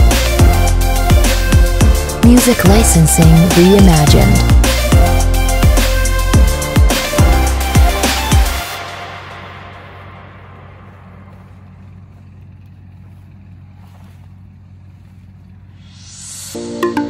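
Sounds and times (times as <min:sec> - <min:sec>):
electronic bass drone: 0:00.0 - 0:17.0.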